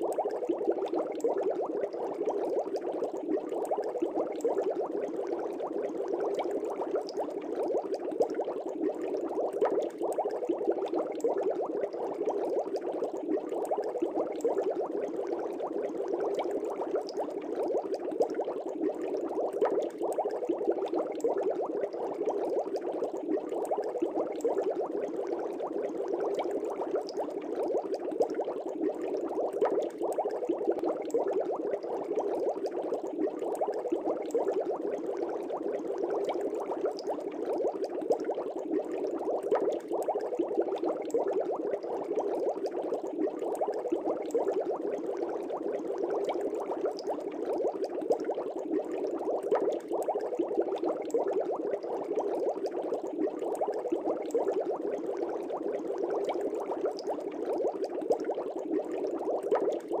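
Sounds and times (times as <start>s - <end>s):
air bubbling in fish tank: 0.0s - 60.0s.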